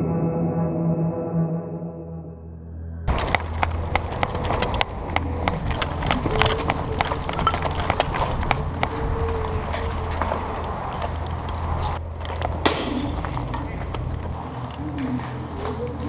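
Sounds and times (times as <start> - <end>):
steady low rumble: 2.6 - 16.0
quick footsteps: 3.1 - 16.0.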